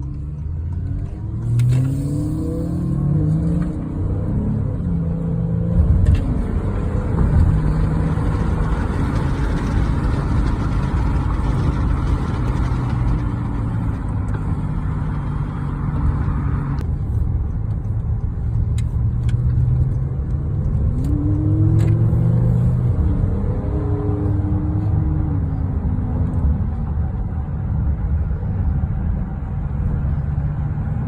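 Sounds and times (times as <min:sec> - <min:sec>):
sports car engine at low revs: 0:00.0 - 0:31.0.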